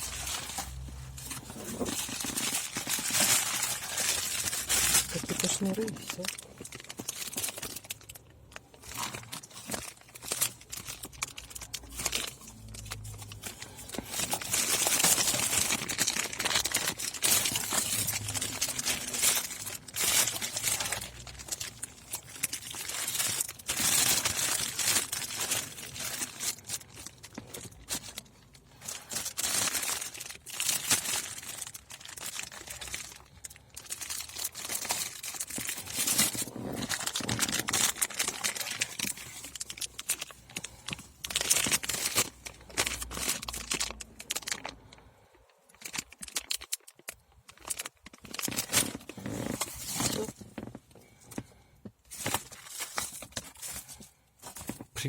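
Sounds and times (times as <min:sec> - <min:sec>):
plastic packaging crinkling: 0:00.0 - 0:55.0.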